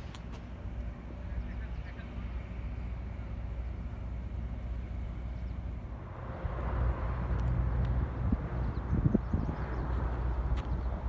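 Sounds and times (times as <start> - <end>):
highway traffic rumble: 0.0 - 11.0
tyre noise of passing vehicle: 0.0 - 11.0.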